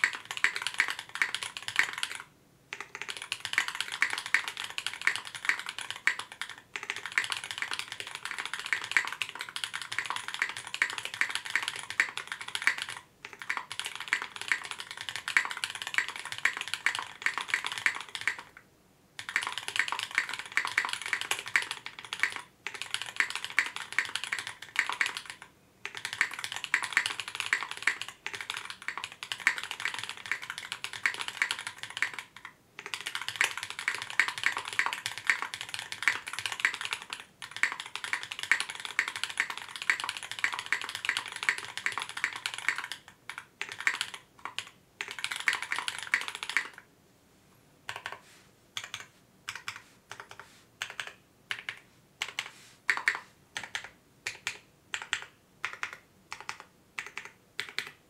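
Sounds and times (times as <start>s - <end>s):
mechanical keyboard typing: 0.0s - 18.6s, 19.2s - 46.8s, 47.9s - 48.2s, 48.8s - 58.0s.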